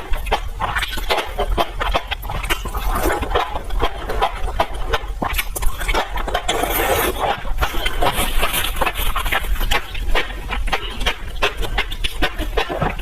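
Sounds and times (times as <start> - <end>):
lip smacks: 0.0 - 13.0
wet chewing: 0.0 - 13.0.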